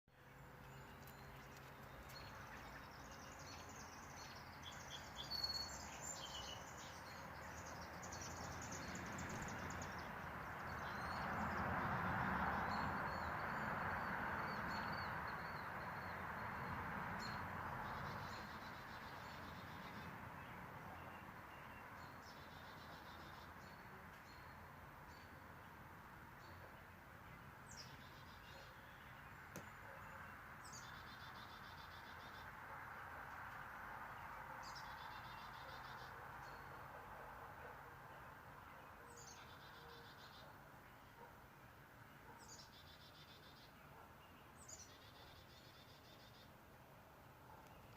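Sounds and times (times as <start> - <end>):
steady outdoor noise: 0.1 - 47.9
small birds chirping and trilling: 0.2 - 46.6.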